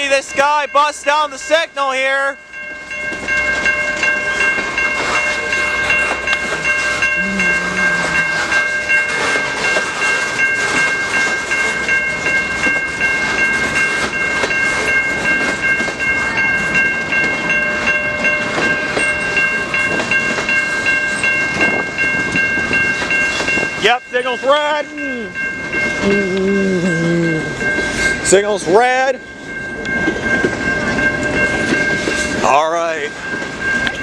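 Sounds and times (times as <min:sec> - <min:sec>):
train wheels clacking on rails: 0:00.0 - 0:26.2, 0:27.5 - 0:34.0
electronic crossing bell ringing: 0:00.0 - 0:34.0.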